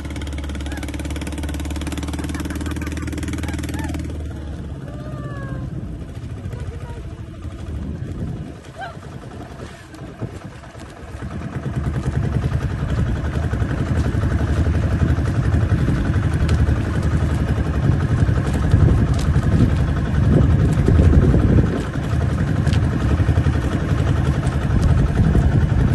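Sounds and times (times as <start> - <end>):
motorboat engine rumbling: 0.0 - 25.9.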